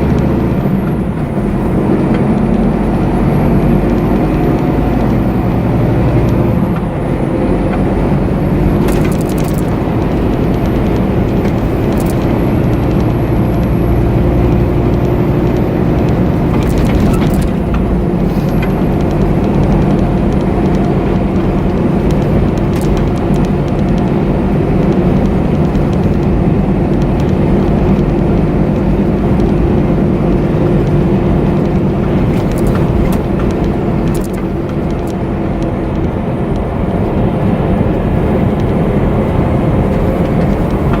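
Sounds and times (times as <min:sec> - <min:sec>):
road noise: 0:00.0 - 0:41.0
truck diesel engine running: 0:00.0 - 0:41.0
sharp clicks or rattles: 0:00.1 - 0:41.0.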